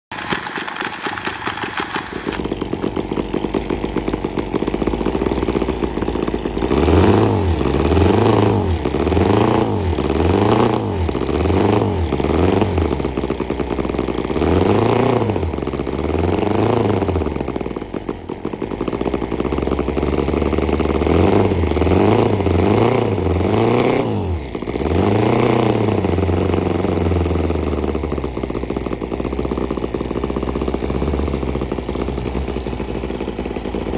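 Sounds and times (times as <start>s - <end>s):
model engine idling and revving: 0.1s - 33.9s.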